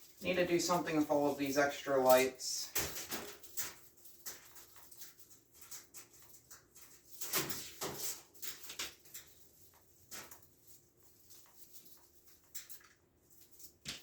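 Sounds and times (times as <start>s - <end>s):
knocks and rustles of handled objects: 2.1s - 14.0s.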